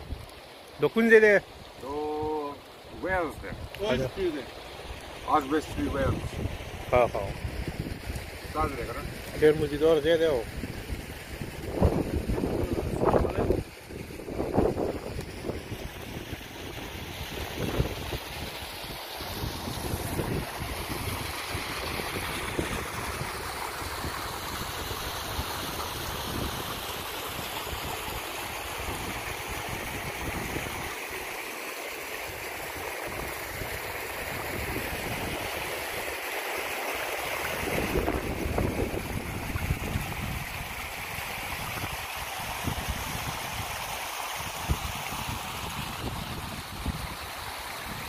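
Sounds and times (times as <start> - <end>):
stream babbling over stones: 0.0 - 48.0
wind gusting on microphone: 1.6 - 30.9, 33.1 - 35.8, 37.5 - 43.8, 44.4 - 48.0.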